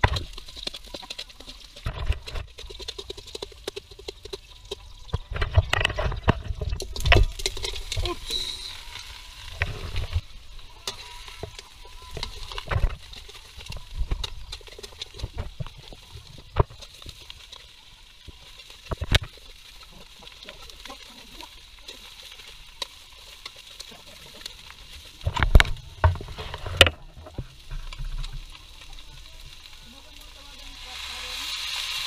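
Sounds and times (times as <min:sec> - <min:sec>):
meat sizzling: 0:00.0 - 0:32.0.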